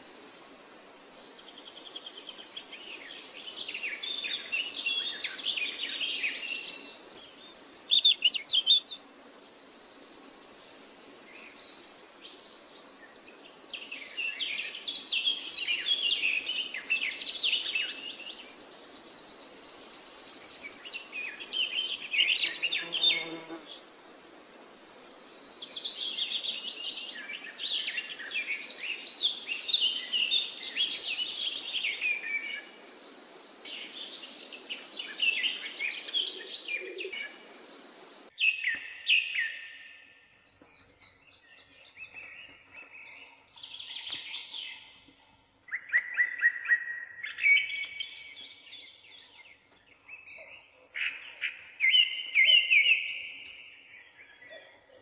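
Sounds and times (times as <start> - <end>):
birds chirping: 1.3 - 23.9, 24.6 - 55.0.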